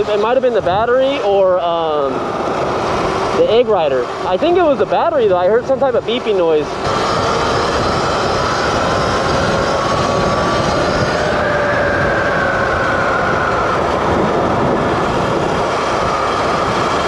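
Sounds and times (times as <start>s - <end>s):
electric motor whining: 0.0s - 17.0s
wind rushing over microphone: 0.0s - 17.0s.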